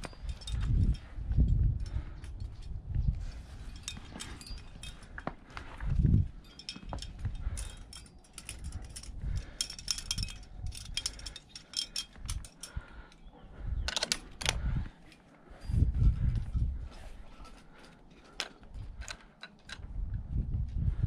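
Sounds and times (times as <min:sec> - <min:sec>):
climbing hardware jingling: 0:00.0 - 0:19.9.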